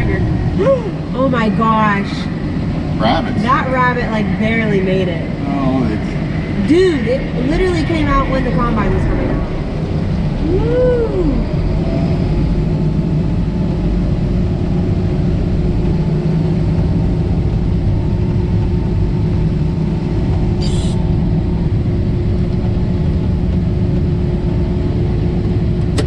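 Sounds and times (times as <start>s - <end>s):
harvest machinery engine drone: 0.0s - 26.0s.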